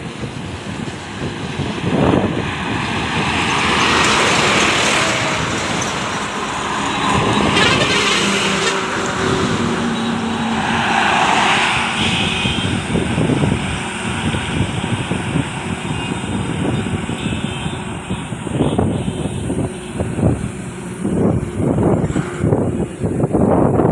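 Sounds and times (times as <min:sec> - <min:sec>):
trucks passing on road: 0:00.0 - 0:23.9.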